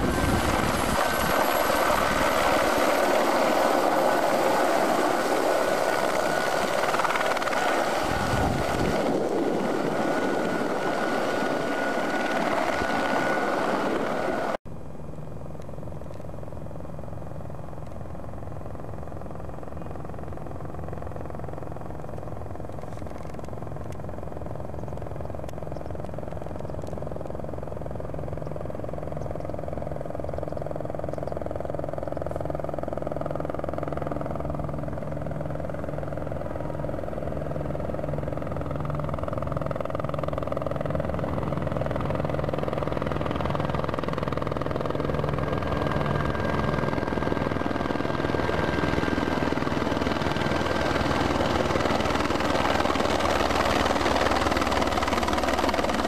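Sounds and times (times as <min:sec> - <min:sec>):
helicopter rotor beat: 0:00.0 - 0:56.0
helicopter turbine noise: 0:00.0 - 0:56.0.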